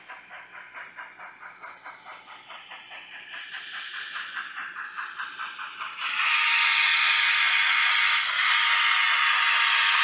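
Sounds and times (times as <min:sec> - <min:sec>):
steam hiss: 0:00.0 - 0:10.0
steam locomotive chuffing: 0:00.0 - 0:10.0.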